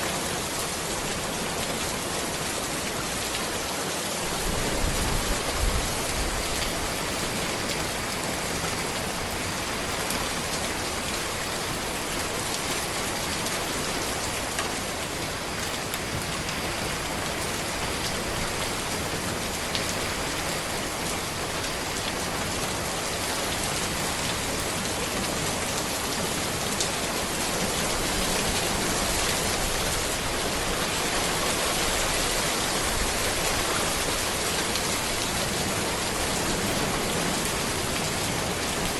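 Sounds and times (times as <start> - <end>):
rain falling on road: 0.0 - 38.9.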